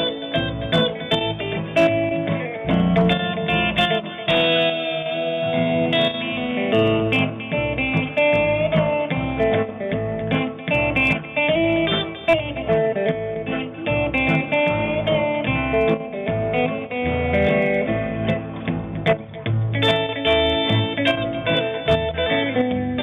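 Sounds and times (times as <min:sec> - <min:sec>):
picked guitar melody: 0:00.0 - 0:23.0
strummed acoustic guitar chords: 0:00.0 - 0:23.0.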